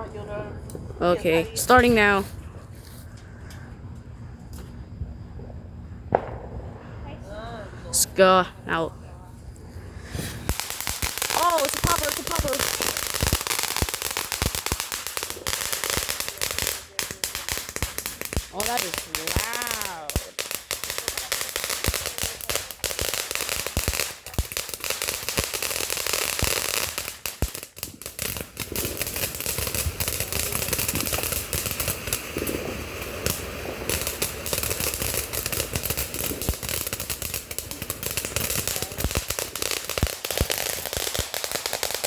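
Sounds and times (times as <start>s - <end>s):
firecrackers popping: 0.6s - 3.7s, 4.4s - 8.1s, 8.7s - 42.0s.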